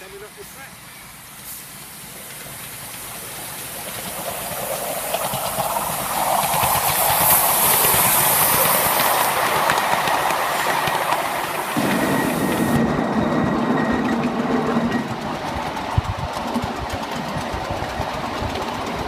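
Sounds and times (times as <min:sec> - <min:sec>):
hissing steam: 0:00.0 - 0:19.0
wheels clicking over rail joints: 0:00.0 - 0:19.0.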